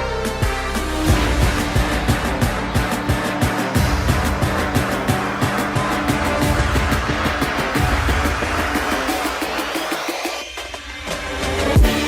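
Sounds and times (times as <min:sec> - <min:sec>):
loud music with bass beat: 0:00.0 - 0:12.0.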